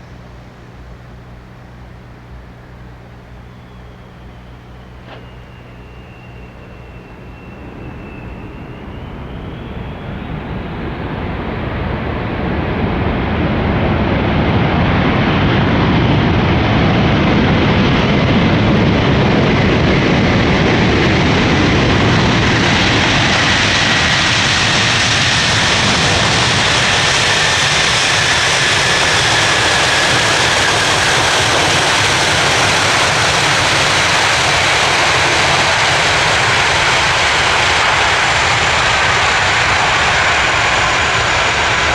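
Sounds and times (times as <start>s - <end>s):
high engine whine falling in pitch: 0.0s - 41.9s
jet engines roaring: 0.0s - 41.9s.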